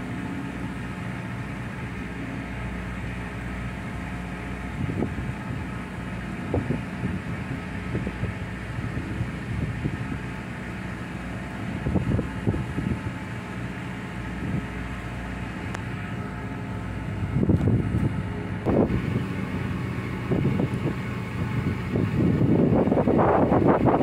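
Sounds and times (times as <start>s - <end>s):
boat engine droning: 0.0s - 24.0s
wind buffeting microphone: 2.9s - 24.0s.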